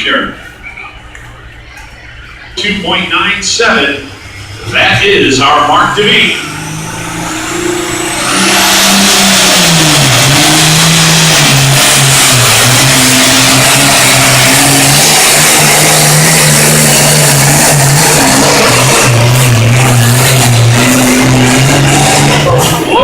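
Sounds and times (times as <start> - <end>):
high turbo whine: 0.0 - 23.0
tractor engine at full power: 1.2 - 23.0.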